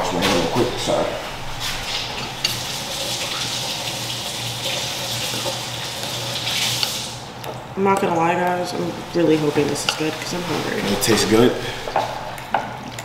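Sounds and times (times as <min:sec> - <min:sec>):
tap water running: 0:00.0 - 0:12.4.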